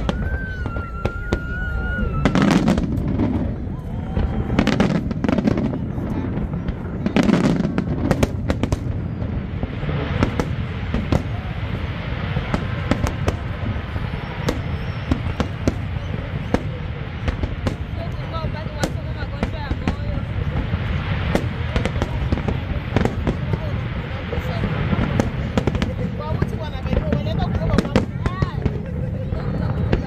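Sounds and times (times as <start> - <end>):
dense firework crackle: 0.0 - 30.0.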